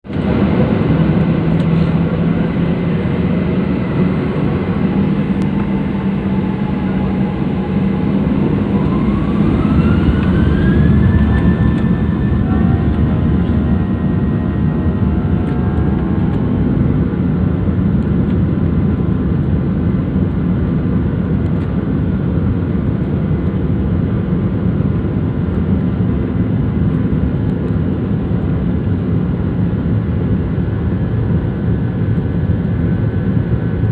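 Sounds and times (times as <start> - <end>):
jet engines whining: 0.1 - 33.9.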